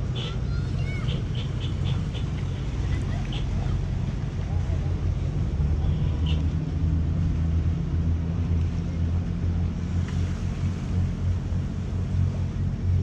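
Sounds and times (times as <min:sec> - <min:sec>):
diesel engine droning: 0:00.0 - 0:13.0
water noise: 0:00.0 - 0:13.0
wind: 0:00.0 - 0:13.0.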